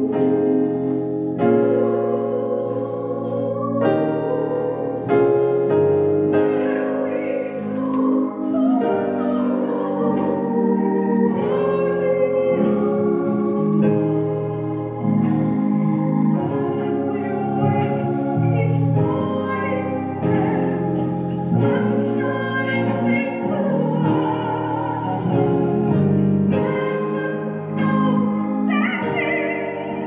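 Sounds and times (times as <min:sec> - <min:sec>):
instrumental accompaniment: 0:00.0 - 0:30.0
woman singing gospel: 0:00.0 - 0:30.0.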